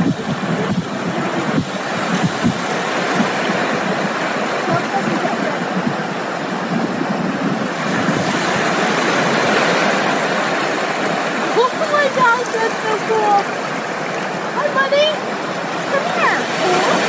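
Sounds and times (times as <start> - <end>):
small waves washing on beach: 0.0 - 17.0
wind rumble on microphone: 0.0 - 17.0.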